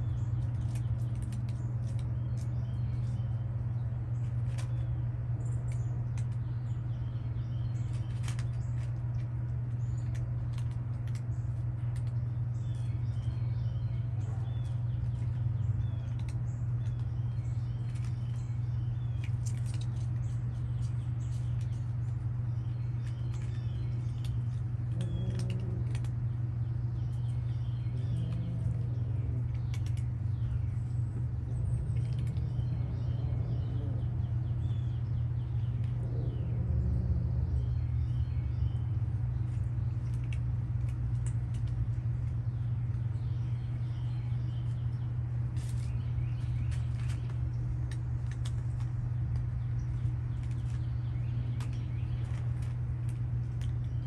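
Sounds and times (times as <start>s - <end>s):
cats chewing dry food: 0.0s - 54.0s
steady low hum: 0.0s - 54.0s.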